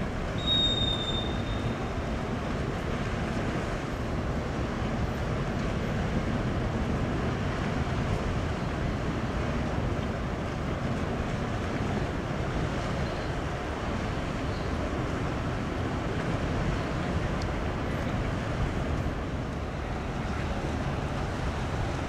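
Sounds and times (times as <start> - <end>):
sea wash: 0.0 - 22.0
ship engine low rumble: 0.0 - 22.0.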